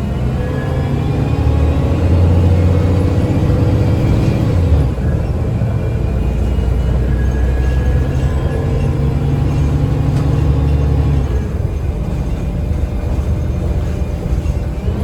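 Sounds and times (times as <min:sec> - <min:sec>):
bus engine drone with whine: 0:00.0 - 0:15.0.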